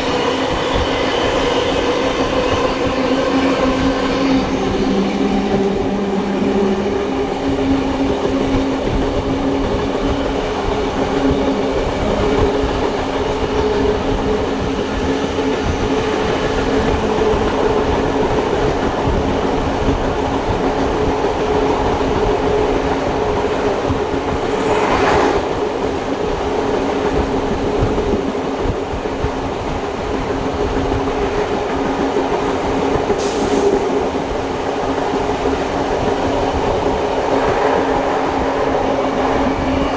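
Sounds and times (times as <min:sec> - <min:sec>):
louder rush of train: 0:00.0 - 0:39.9
steady train drone: 0:00.0 - 0:39.9
train wheels rumbling on rails: 0:00.0 - 0:39.9.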